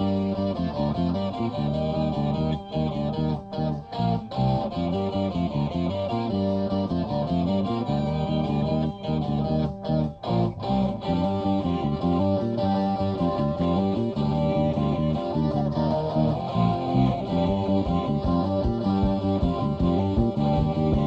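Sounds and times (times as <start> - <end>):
bass and drums: 0.0 - 21.0
electric guitars playing a riff: 0.0 - 21.0.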